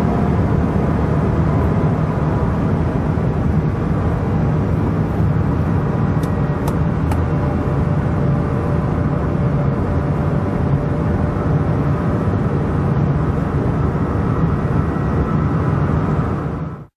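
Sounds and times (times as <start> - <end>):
car engine at high speed: 0.0 - 16.9
wind noise: 0.0 - 16.9.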